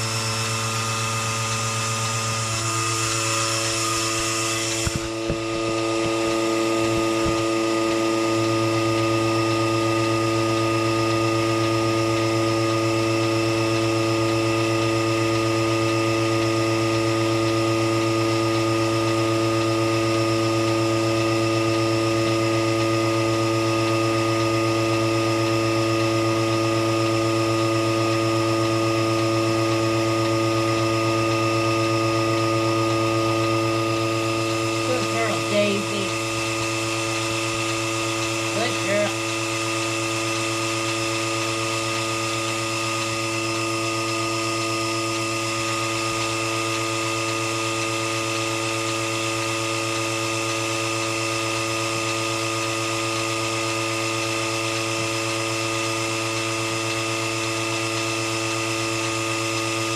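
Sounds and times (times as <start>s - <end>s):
milking machine pump humming: 0.0s - 59.9s.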